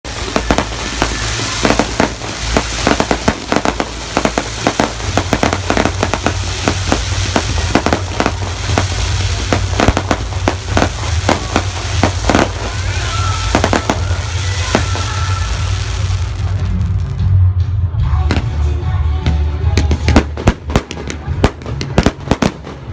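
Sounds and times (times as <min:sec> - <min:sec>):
fireworks bangs and crackles: 0:00.0 - 0:17.4, 0:18.2 - 0:22.9.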